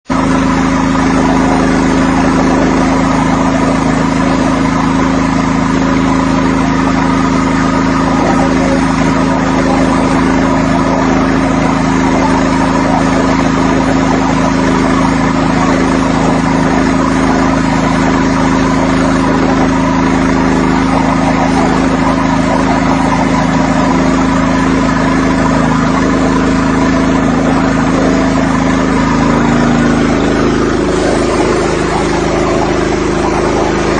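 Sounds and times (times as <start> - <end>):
pressure washer running: 0.0 - 33.9.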